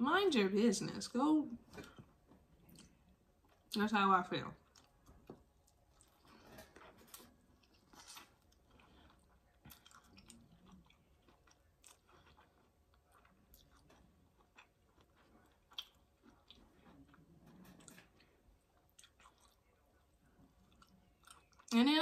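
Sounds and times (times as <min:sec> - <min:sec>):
faint chewing and wet mouth sounds: 0:01.0 - 0:22.0.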